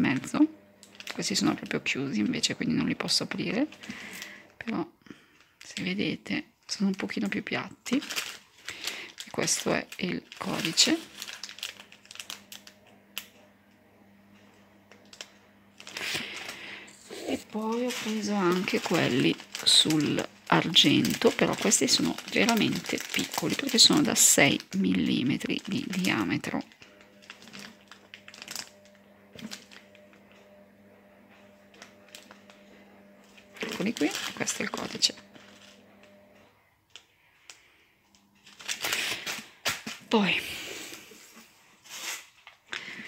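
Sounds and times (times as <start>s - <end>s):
plastic bag crinkling: 0.1s - 6.1s, 6.7s - 13.3s, 15.0s - 30.3s, 31.4s - 36.2s, 36.8s - 43.0s.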